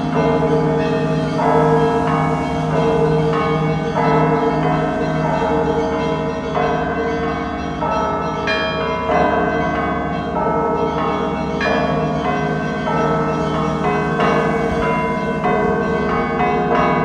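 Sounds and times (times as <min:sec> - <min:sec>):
church bells ringing: 0:00.0 - 0:17.0
deep bell ringing: 0:00.0 - 0:17.0.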